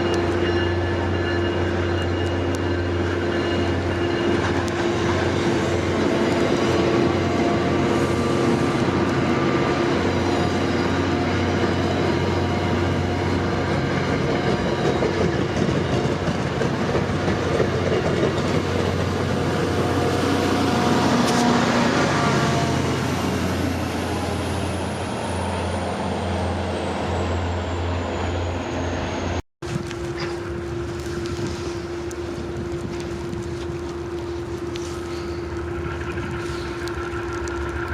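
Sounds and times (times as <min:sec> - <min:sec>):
train rolling on rails: 0:00.0 - 0:37.9.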